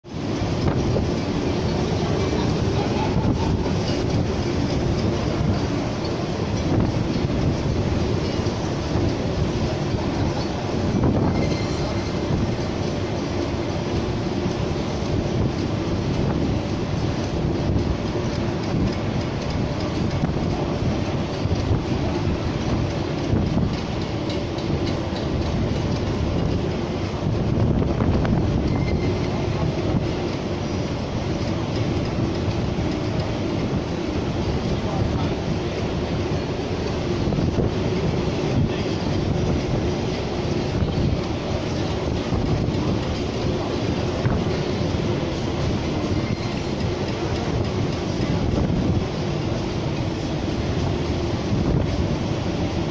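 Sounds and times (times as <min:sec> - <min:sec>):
strong wind buffeting microphone: 0:00.0 - 0:52.9.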